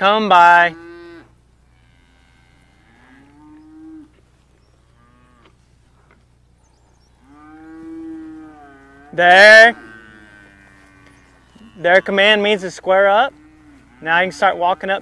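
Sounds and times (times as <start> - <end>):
cattle mooing: 0.4 - 4.2, 4.9 - 5.6, 7.2 - 15.0.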